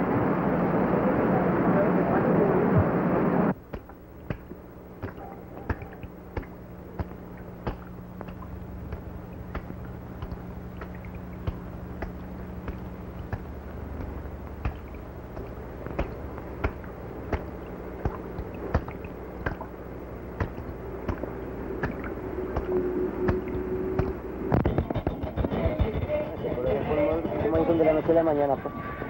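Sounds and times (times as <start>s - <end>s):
faint steady tone: 0.0s - 24.9s
low hum: 0.0s - 29.0s.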